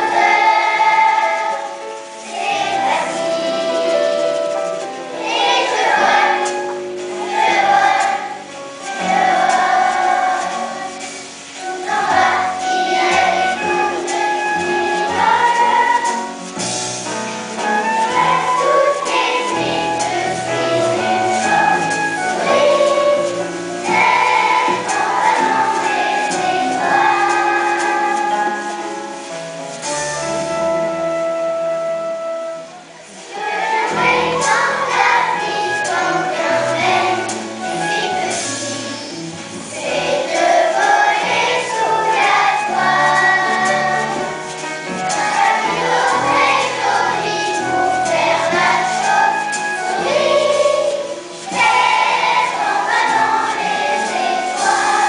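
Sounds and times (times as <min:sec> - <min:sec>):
children's choir singing: 0:00.0 - 0:55.0
instrumental accompaniment: 0:00.0 - 0:55.0.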